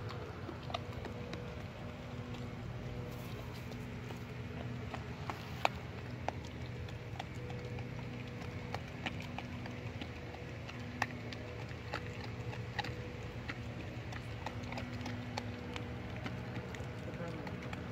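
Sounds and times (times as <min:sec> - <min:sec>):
low hum: 0:00.0 - 0:17.9
puppy chewing bone: 0:00.0 - 0:17.9.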